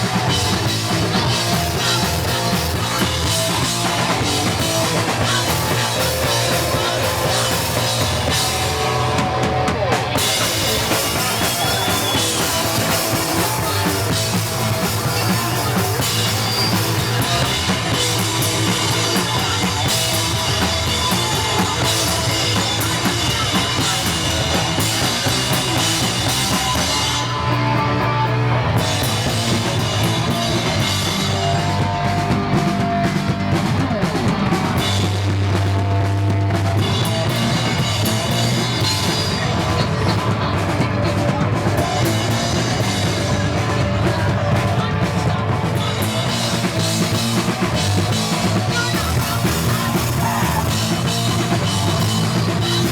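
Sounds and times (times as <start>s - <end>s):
drum kit pounding: 0.0s - 52.9s
electric guitar: 0.0s - 52.9s
punk rock band playing live: 0.0s - 52.9s.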